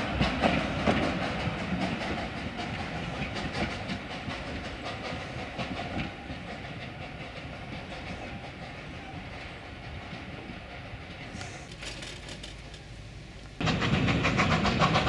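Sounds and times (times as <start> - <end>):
train low rumble: 0.0 - 15.0
wheels clicking over rail joints: 0.0 - 15.0.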